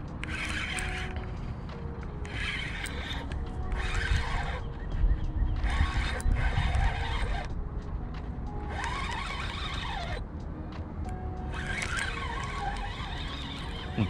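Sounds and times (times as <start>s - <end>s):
lofi background music: 0.0s - 14.0s.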